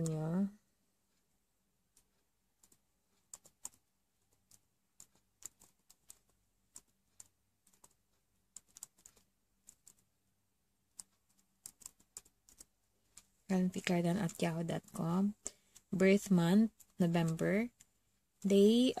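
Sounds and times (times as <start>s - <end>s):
keystrokes on computer keyboard: 1.9s - 10.1s, 10.9s - 18.9s.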